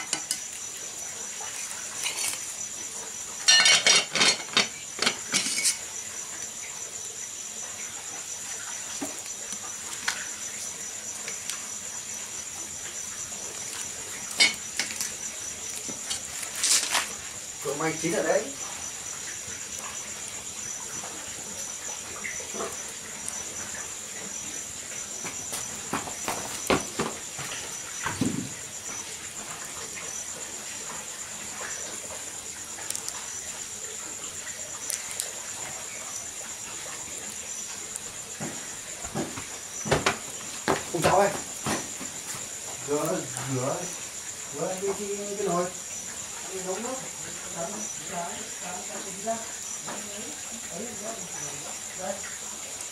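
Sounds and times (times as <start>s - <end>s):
wood fire crackling and popping: 0.0s - 7.0s, 7.7s - 46.0s
crickets trilling: 0.0s - 52.9s.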